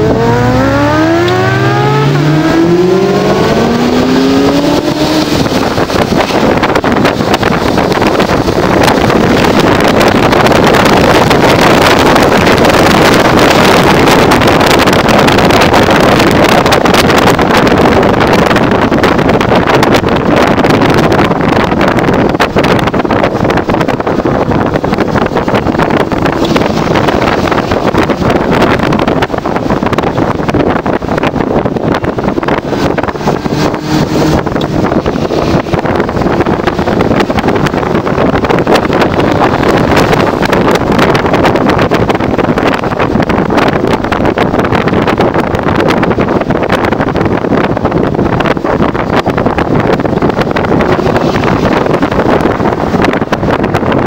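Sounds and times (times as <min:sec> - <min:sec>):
car engine and running gear: 0:00.0 - 0:54.0
road noise: 0:00.0 - 0:54.0
wind buffeting microphone: 0:00.0 - 0:54.0.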